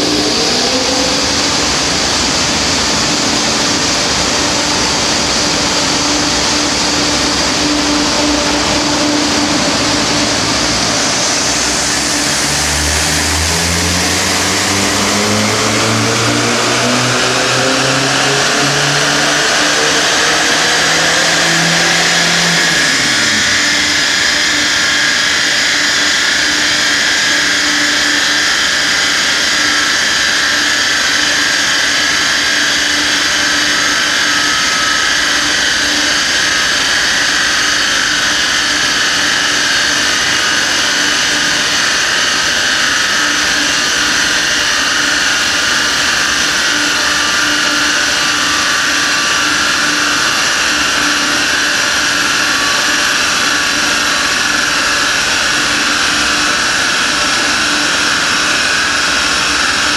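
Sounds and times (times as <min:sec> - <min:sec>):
large electric fan whirring: 0:00.0 - 0:59.9.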